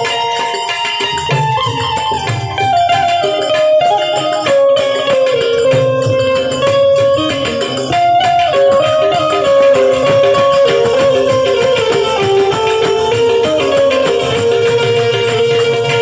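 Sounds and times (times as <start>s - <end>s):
hand drum: 0.0s - 16.0s
held melody line: 0.0s - 16.0s
jingling tambourine: 0.0s - 16.0s.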